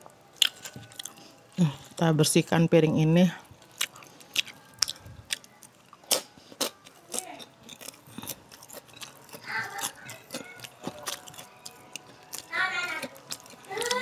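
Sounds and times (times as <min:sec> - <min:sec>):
person chewing food: 0:00.0 - 0:02.0, 0:03.5 - 0:14.0.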